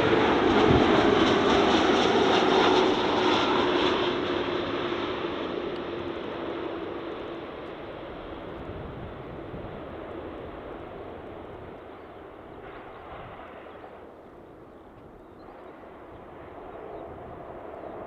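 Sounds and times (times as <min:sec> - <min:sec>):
distant jet airliner rumble: 0:00.0 - 0:18.0.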